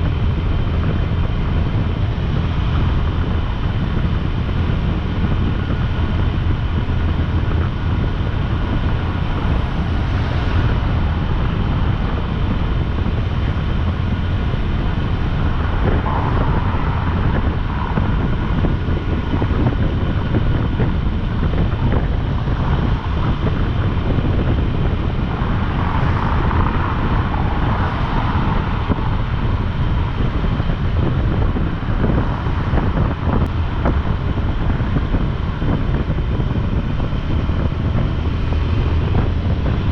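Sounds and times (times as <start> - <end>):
motorcycle engine drone: 0.0 - 39.9
road noise: 0.0 - 39.9
wind rushing over microphone: 0.0 - 39.9.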